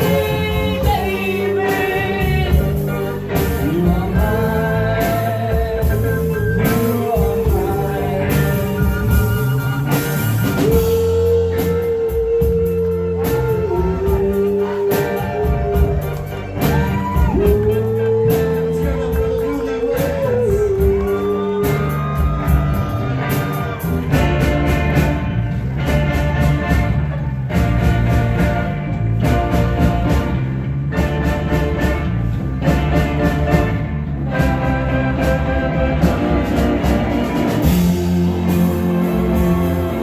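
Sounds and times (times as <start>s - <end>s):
live band playing rock ballad: 0.0s - 40.0s.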